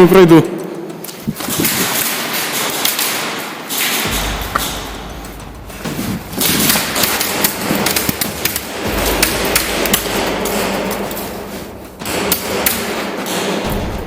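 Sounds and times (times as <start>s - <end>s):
airsoft guns firing: 1.6s - 14.0s.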